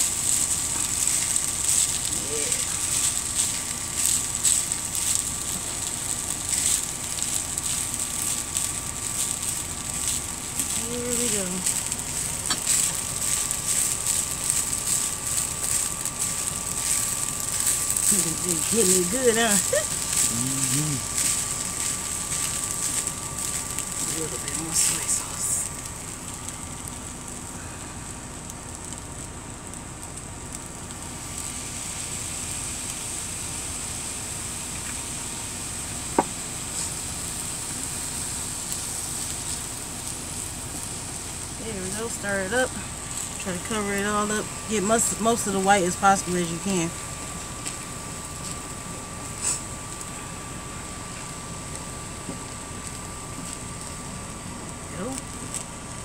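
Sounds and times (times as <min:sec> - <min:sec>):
low rumble: 0:00.0 - 0:56.0
rice sizzling in a skillet: 0:00.0 - 0:56.0.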